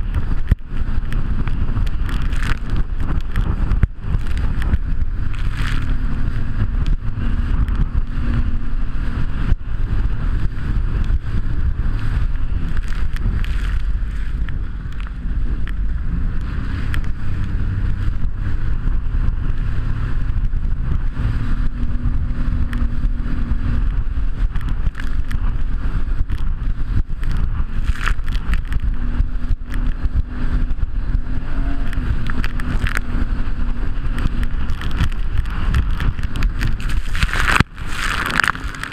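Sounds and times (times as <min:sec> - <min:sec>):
jet ski engine drone: 0:00.0 - 0:38.9
wind buffeting microphone: 0:00.0 - 0:38.9.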